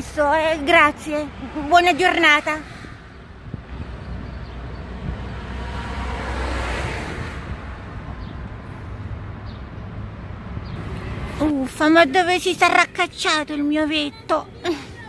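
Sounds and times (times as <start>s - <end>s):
car passing: 0.0s - 15.0s
road traffic rumble: 0.0s - 15.0s.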